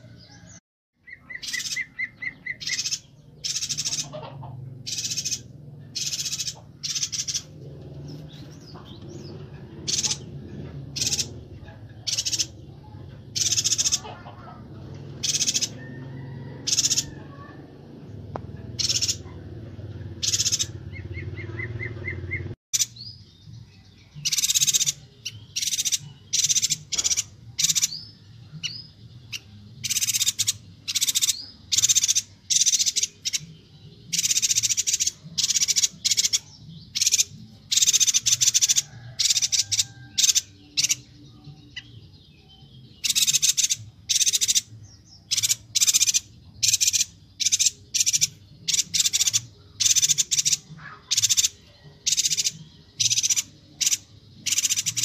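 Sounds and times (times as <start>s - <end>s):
bird chattering calls: 1.0s - 17.6s, 18.6s - 23.0s, 24.2s - 41.1s, 43.0s - 55.0s.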